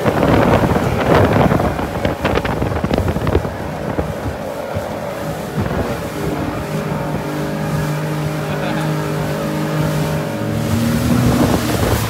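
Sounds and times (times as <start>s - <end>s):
jet boat engine running: 0.0s - 12.0s
water splashes against hull: 0.0s - 12.0s
wind buffeting microphone: 0.0s - 12.0s.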